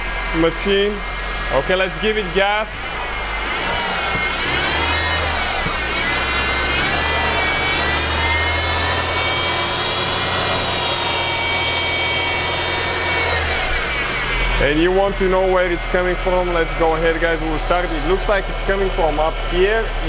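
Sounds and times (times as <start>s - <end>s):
car engine revving: 0.0s - 20.0s
high-pitched pulley whine: 0.0s - 20.0s.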